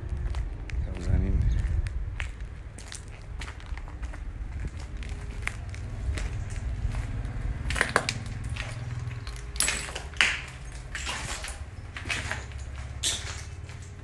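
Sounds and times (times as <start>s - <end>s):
footsteps crunching on rubble: 0.0s - 14.0s
low steady rumble: 0.0s - 14.0s.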